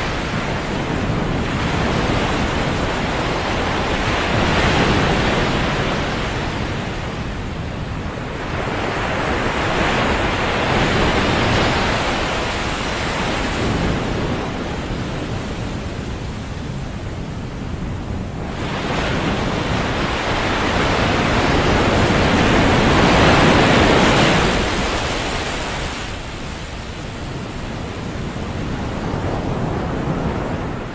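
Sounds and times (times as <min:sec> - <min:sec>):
ocean waves breaking on beach: 0:00.0 - 0:30.9.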